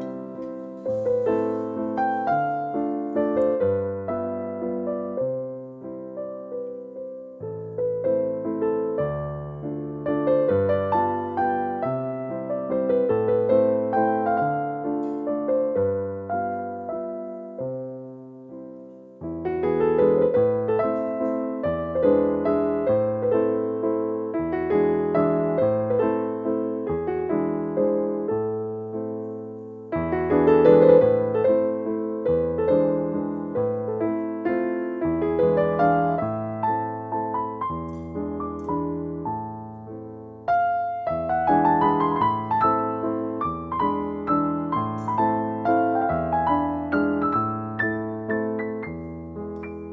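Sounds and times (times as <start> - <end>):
gentle piano music: 0.0 - 49.9.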